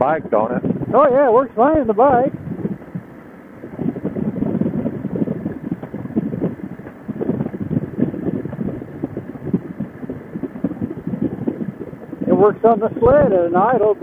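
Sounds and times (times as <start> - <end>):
motorcycle engine and road rumble: 0.0 - 14.0
wind buffeting microphone: 0.0 - 14.0.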